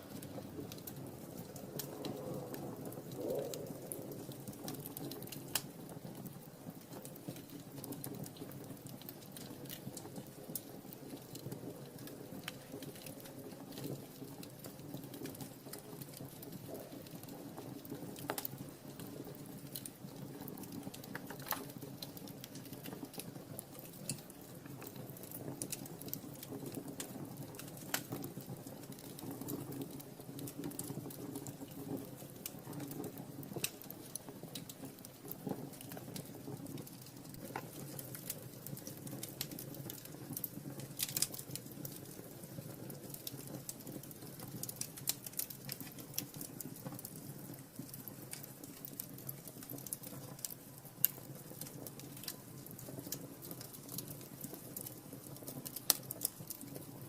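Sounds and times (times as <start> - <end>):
flames rustling: 0.0 - 57.0
wood fire crackling: 0.0 - 57.0.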